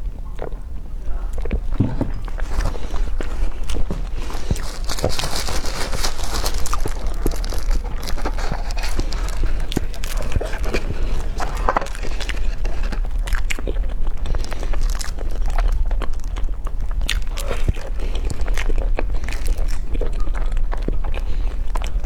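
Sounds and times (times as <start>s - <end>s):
chewing and biting food: 0.0s - 22.0s
constant low hum: 0.0s - 22.0s
wet clicks and crunches: 1.2s - 21.1s.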